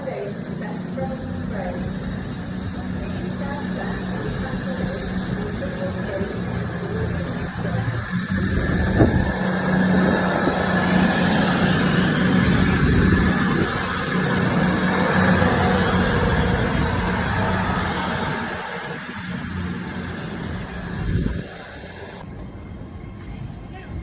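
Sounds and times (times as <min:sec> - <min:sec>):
train passing close by: 0:00.0 - 0:24.0.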